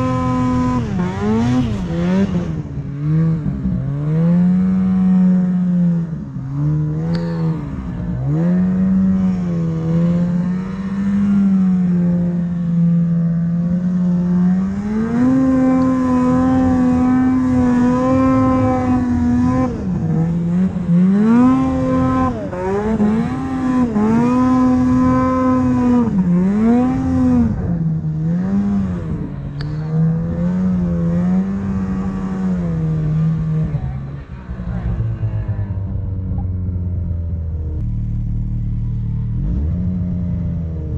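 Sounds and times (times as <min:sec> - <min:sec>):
snowmobile engine revving: 0:00.0 - 0:35.8.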